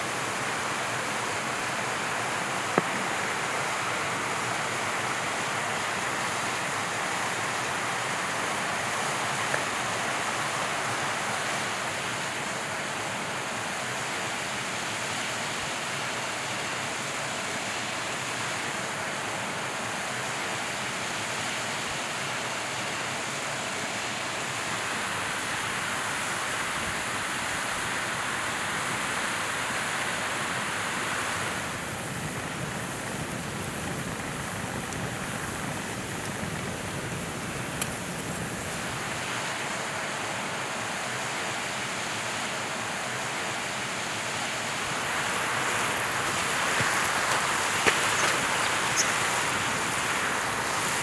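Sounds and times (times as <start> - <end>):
rushing outdoor hiss: 0.0 - 51.0.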